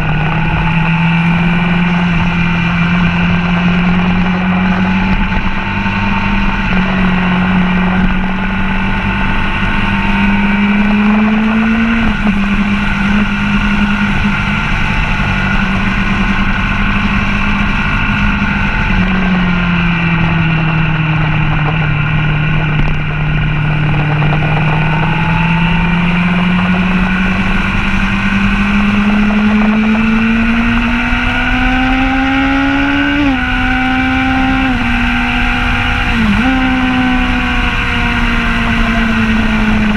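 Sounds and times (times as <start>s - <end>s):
motorcycle engine pulling hard: 0.0s - 39.9s.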